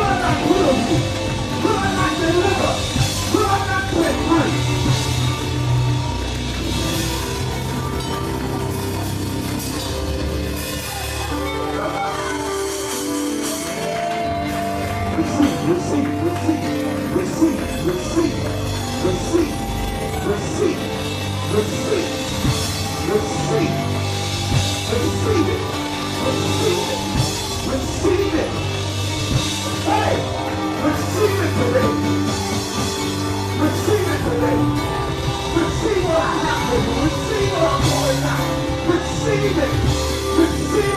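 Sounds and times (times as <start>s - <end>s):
church band playing gospel music: 0.0s - 40.9s
drum kit: 0.0s - 40.9s.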